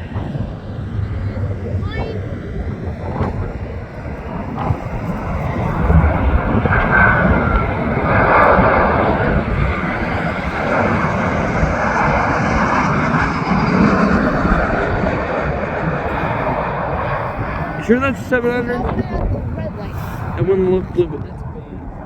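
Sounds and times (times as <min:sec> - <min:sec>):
jet engines rushing overhead: 0:00.0 - 0:22.0
wind rumble on microphone: 0:00.0 - 0:22.0.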